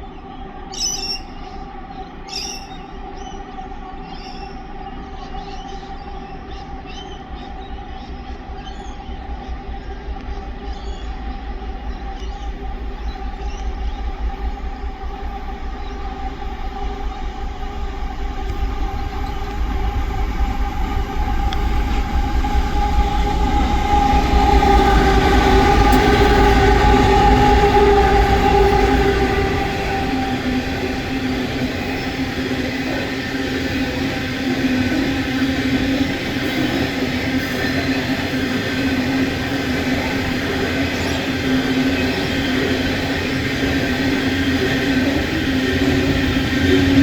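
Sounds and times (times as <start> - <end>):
diesel train rumbling past: 0.0 - 47.0.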